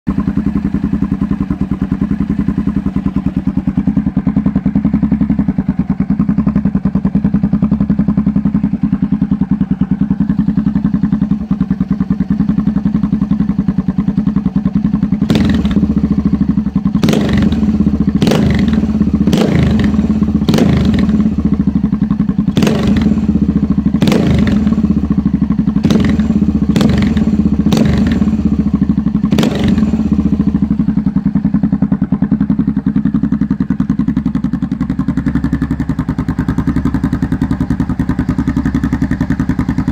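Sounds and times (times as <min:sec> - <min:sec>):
motorcycle engine idling: 0:00.0 - 0:39.9
motorcycle throttle blips: 0:00.1 - 0:39.9.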